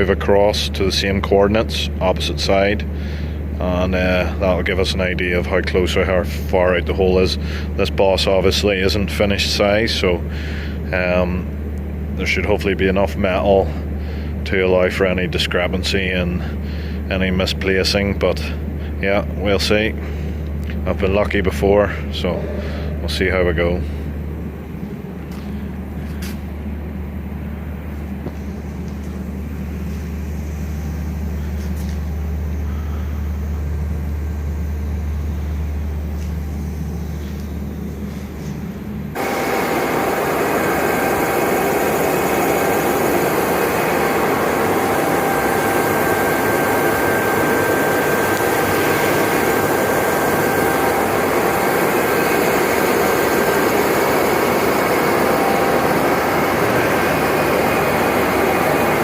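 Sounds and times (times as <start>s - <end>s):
low engine-like hum: 0.0s - 59.0s
machine noise with whining tones: 0.0s - 59.0s.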